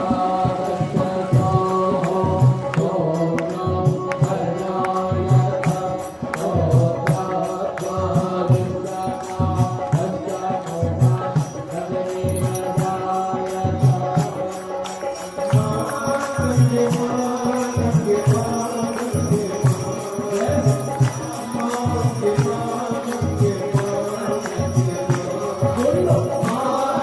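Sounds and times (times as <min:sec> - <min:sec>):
mantra chanting with music: 0:00.0 - 0:27.0.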